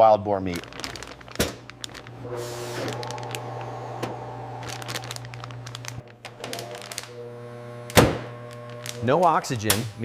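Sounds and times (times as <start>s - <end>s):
plastic film crinkling: 0.3s - 9.9s.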